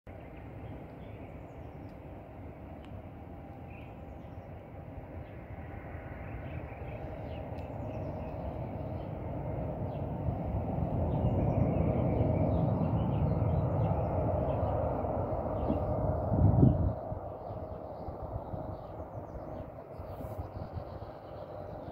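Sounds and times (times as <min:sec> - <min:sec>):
jet engines rumbling and whining: 0:00.1 - 0:21.9.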